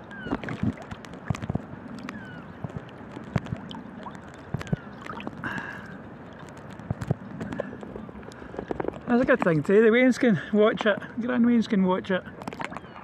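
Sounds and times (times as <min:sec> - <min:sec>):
seawater lapping and splashing: 0:00.0 - 0:11.2, 0:12.0 - 0:13.0.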